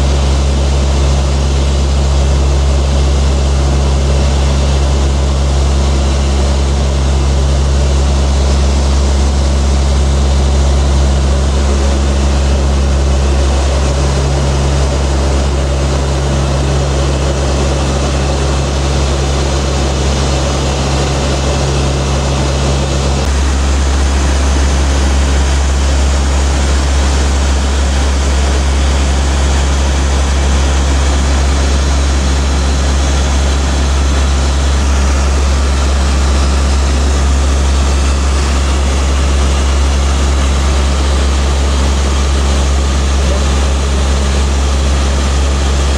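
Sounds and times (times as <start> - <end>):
turboprop engines droning in cabin: 0.0 - 45.9.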